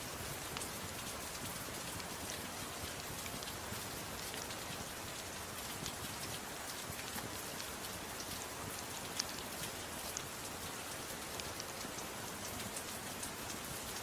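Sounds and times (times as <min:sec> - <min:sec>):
soft rain falling: 0:00.0 - 0:14.0.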